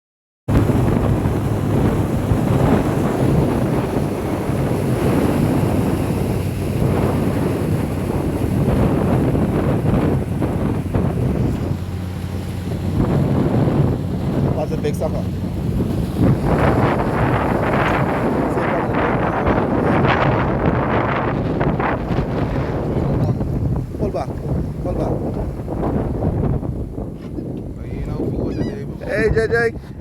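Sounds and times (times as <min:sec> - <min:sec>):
wind buffeting microphone: 0:00.5 - 0:30.0.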